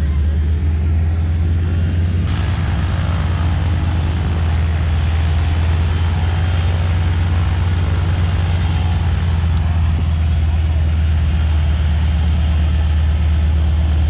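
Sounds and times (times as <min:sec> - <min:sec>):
propeller aircraft engine drone: 0:00.0 - 0:14.0
strong low rumble: 0:00.0 - 0:14.0.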